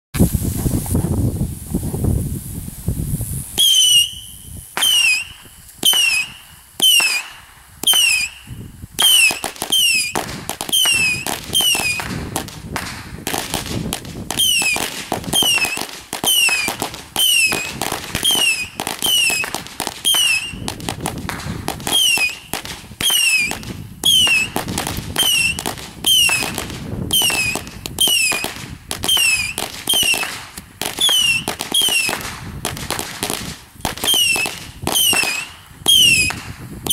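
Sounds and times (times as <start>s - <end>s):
fireworks popping and crackling: 0.2s - 36.9s
fireworks whistling: 0.2s - 36.9s.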